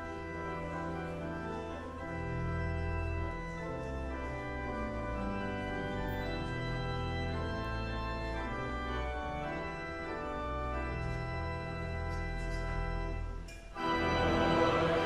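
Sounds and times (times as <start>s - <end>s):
organ playing slow chords: 0.0s - 15.0s.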